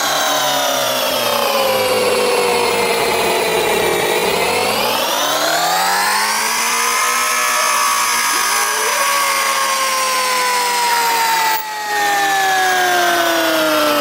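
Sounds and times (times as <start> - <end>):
milling machine whining: 0.0 - 14.0.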